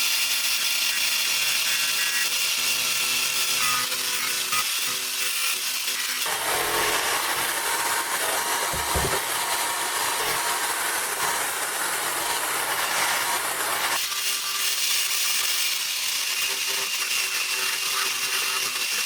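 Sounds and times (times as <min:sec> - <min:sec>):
power tool rasping on wood: 0:00.0 - 0:19.0.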